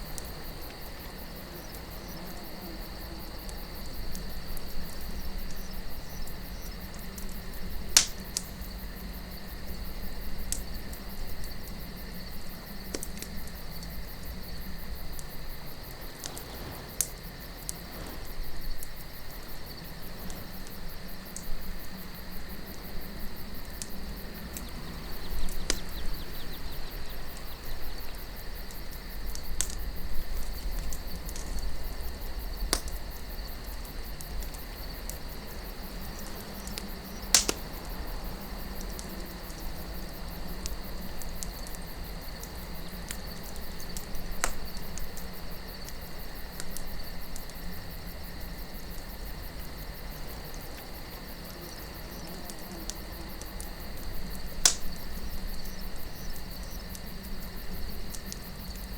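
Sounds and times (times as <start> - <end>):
campfire crackling and popping: 0.0 - 58.9
crickets chirring: 0.0 - 58.9
low rumble of wind: 0.0 - 58.9.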